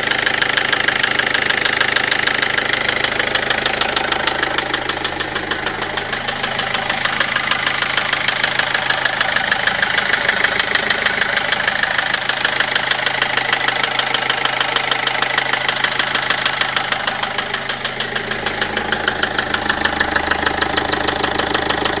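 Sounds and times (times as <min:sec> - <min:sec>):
diesel engine running with knock: 0:00.0 - 0:22.0.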